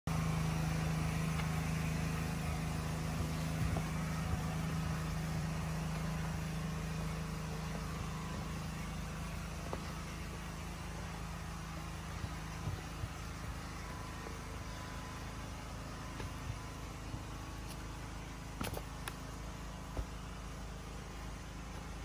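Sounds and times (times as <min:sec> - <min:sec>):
motor humming steadily: 0:00.1 - 0:22.0.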